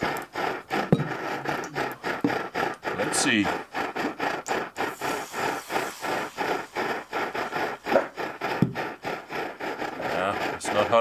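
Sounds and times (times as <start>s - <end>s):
camping stove burner roaring: 0.0s - 11.0s.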